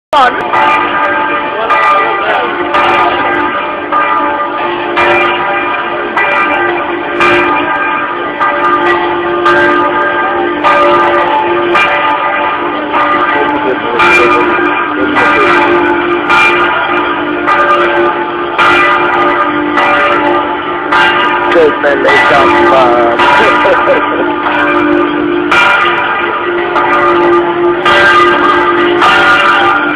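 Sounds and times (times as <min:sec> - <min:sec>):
church bell ringing: 0:00.2 - 0:29.9.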